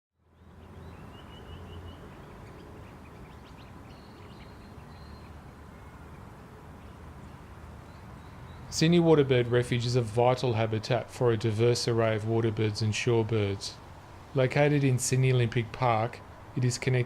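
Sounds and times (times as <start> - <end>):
birds chirping faintly: 0.2 - 17.0.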